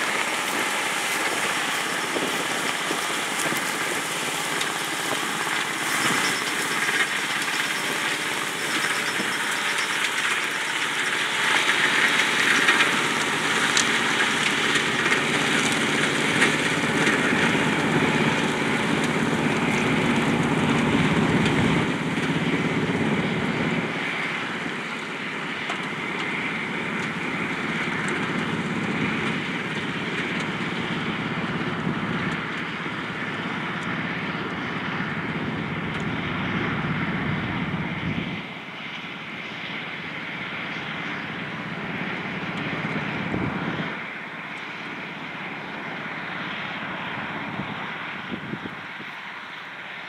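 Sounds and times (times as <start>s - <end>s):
tractor diesel engine droning: 0.0s - 50.0s.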